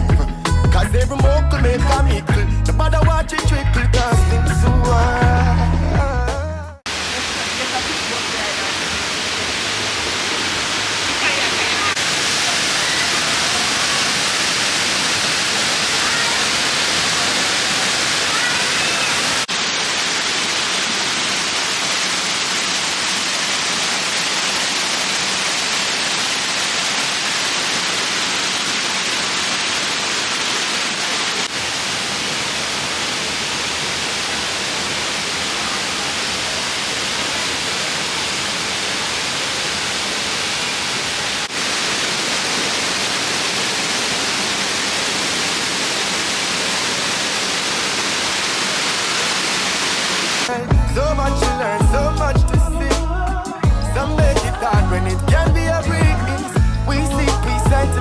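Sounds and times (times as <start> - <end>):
waterfall rushing: 6.8 - 57.7.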